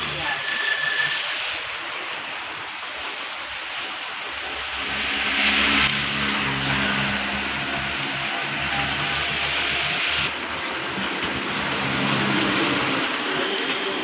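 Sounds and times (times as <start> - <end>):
rain hiss: 0.0 - 14.0
vehicle passing on wet road: 0.0 - 14.0.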